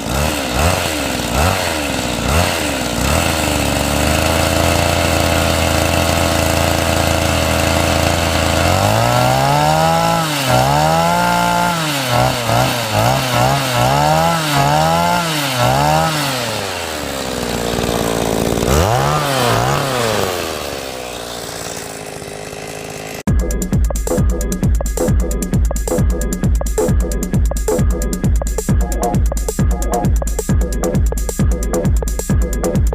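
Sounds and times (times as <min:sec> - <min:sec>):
small two-stroke engine revving: 0:00.0 - 0:32.9.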